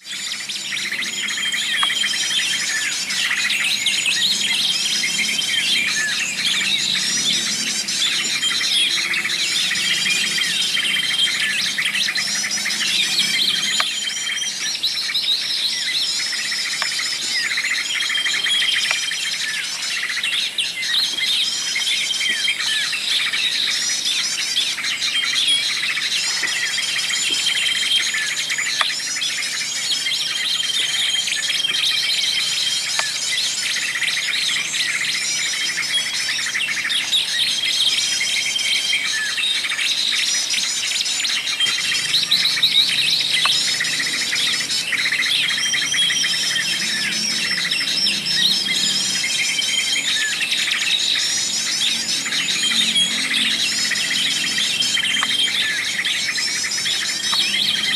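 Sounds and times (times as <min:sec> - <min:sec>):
songbirds chirping and twittering: 0:00.0 - 0:57.9.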